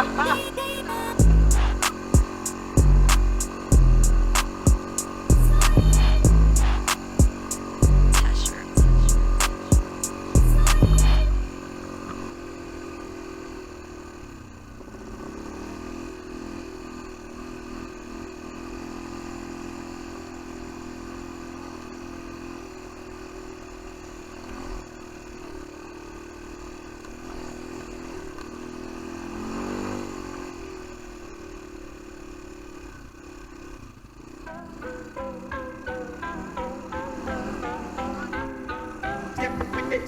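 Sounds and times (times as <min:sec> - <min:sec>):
quad bike engine revving: 0:00.0 - 0:40.0.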